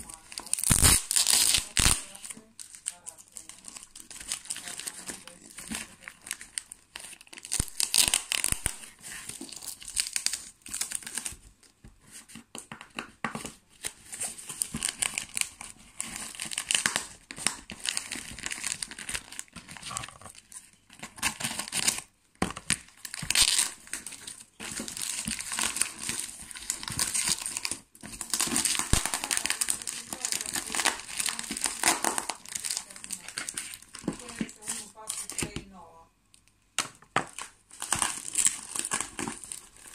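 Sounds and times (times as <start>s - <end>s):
paper crumpling and tearing: 0.0s - 11.4s, 13.8s - 22.1s, 22.9s - 35.6s, 37.3s - 39.9s.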